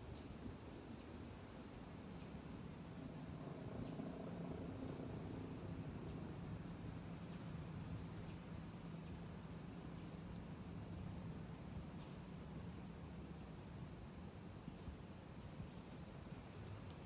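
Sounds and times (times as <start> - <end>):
low steady background rumble: 0.0 - 17.0.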